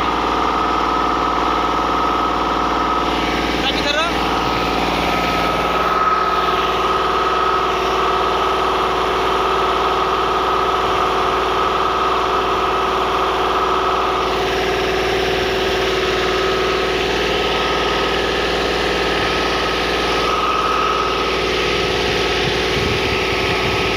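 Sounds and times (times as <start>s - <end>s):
high whine: 0.0s - 23.9s
tractor engine idling: 0.0s - 23.9s.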